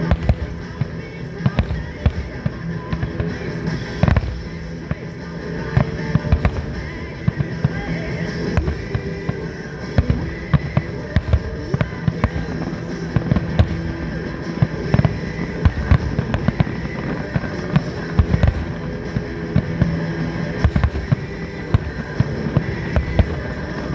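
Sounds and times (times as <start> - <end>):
background music: 0.0 - 23.9
fireworks bursting: 0.0 - 23.9.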